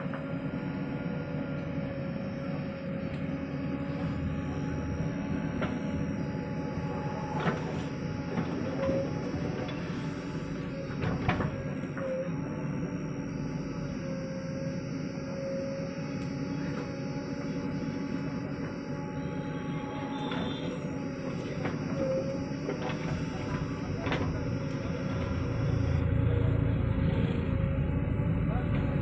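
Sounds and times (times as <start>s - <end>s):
diesel engine running: 0.0s - 29.0s
hydraulic whine: 0.0s - 29.0s.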